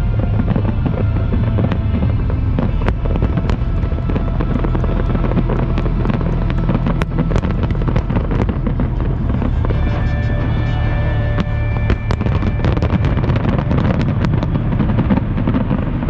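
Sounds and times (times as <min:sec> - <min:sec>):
fireworks cracking and popping: 0:00.0 - 0:16.0
low rumble: 0:00.0 - 0:16.0.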